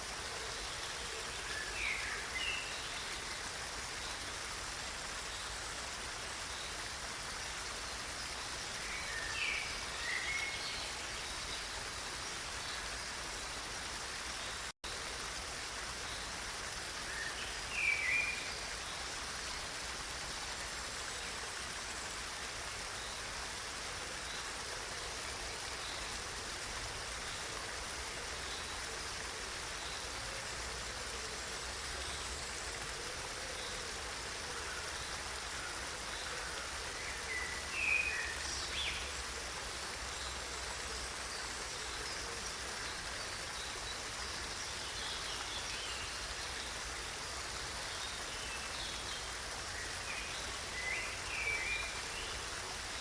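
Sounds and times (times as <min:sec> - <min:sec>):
running water rushing: 0:00.0 - 0:53.0.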